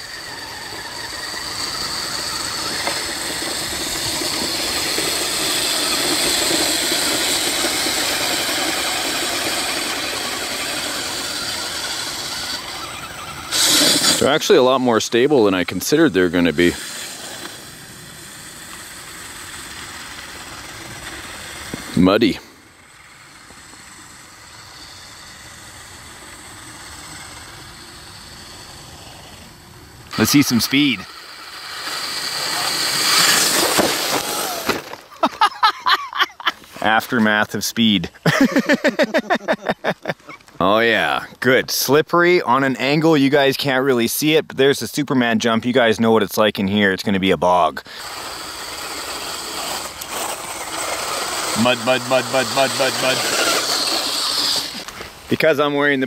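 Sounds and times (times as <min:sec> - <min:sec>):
electric motors whining: 0:00.0 - 0:36.8, 0:38.2 - 0:41.3, 0:47.8 - 0:56.0
tyres churning through mud: 0:00.0 - 0:37.5, 0:47.8 - 0:56.0.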